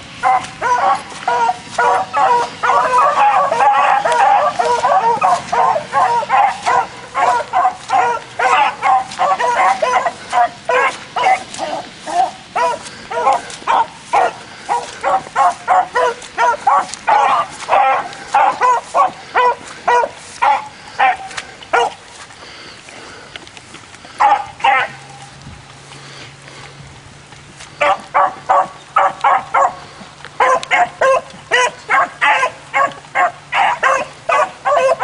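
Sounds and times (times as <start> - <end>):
dogs baying: 0.0 - 22.3, 24.1 - 25.4, 27.7 - 35.0.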